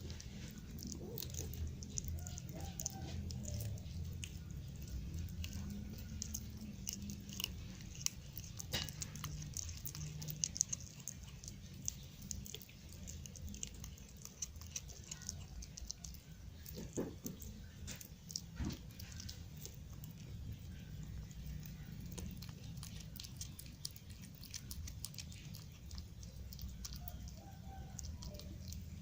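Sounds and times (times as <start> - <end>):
kitten chewing and crunching: 0.0 - 29.0.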